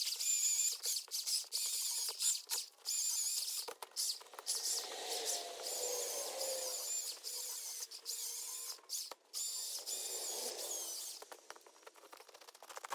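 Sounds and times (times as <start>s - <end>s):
electric chainsaw whining: 0.0s - 11.9s.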